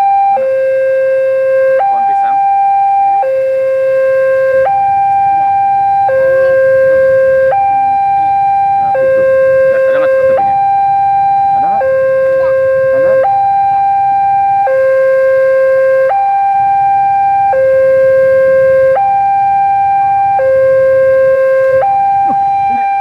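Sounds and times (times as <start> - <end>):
two-tone crossing warning alarm: 0.0 - 23.0.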